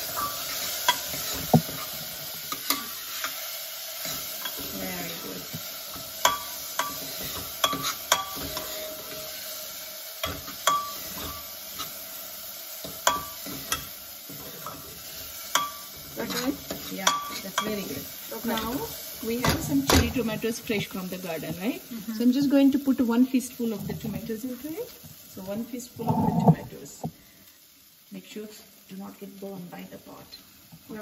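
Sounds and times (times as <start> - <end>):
lentils sizzling in hot fat: 0.0 - 31.0.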